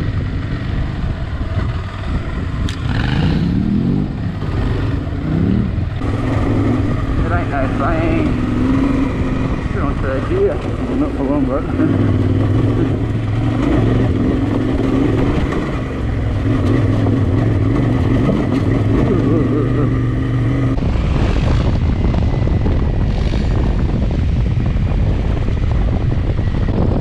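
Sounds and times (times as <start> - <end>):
motorcycle engine cruising: 0.0 - 27.0
road noise: 0.0 - 27.0
wind rushing on microphone: 0.0 - 27.0.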